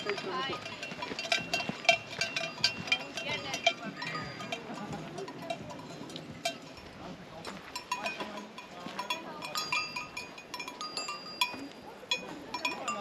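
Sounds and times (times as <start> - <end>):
metal bells clanking: 0.0 - 13.0.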